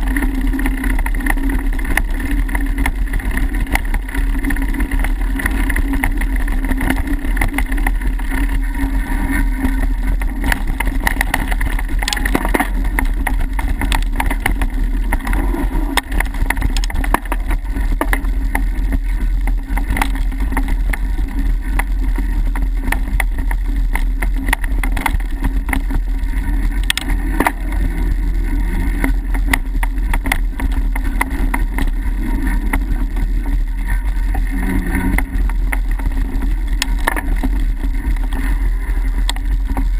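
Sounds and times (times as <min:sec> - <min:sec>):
bike rattles and clicks: 0:00.0 - 0:39.9
wind and tyre rumble: 0:00.0 - 0:39.9.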